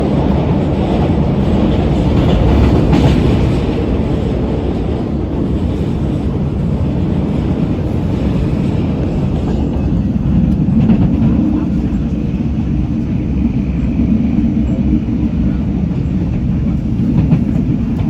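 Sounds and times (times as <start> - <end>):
subway train rumbling on rails: 0.0 - 18.0.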